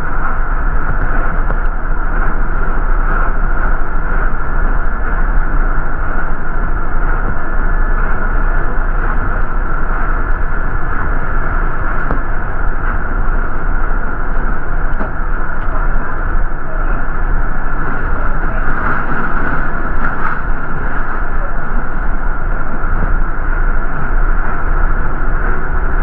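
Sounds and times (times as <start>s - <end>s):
bus drivetrain and road rumble: 0.0s - 26.0s.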